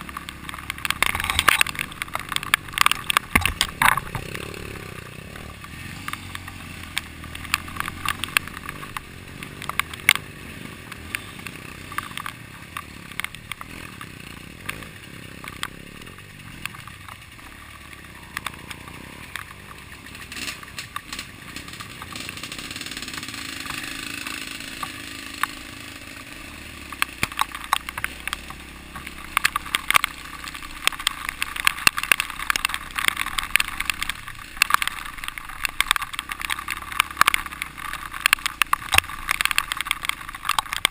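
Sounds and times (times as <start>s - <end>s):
dirt bike engine at low speed: 0.0s - 40.9s
knocks and rattles over bumps: 0.0s - 40.9s.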